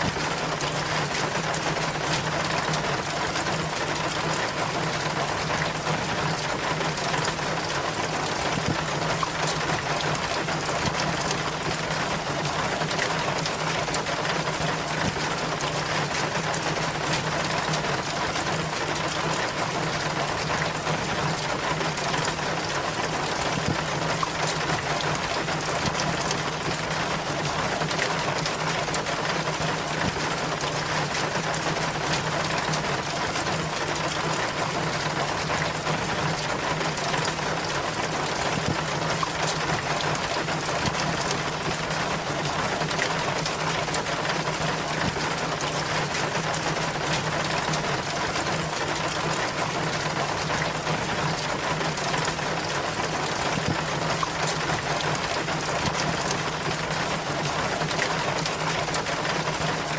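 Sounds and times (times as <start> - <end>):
rainwater splashing and trickling: 0.0 - 59.9
small water drips: 0.0 - 59.9.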